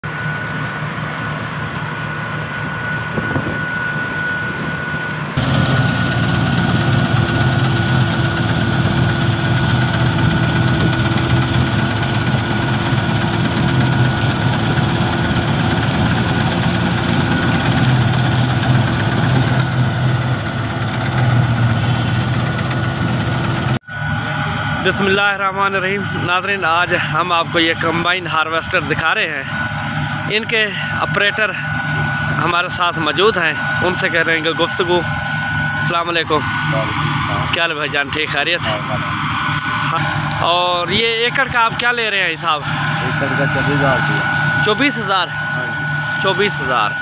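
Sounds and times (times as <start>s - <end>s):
machinery whirring: 0.0s - 26.8s, 27.4s - 47.0s
combine harvester engine drone: 0.0s - 47.0s
thin steady whine: 0.0s - 47.0s.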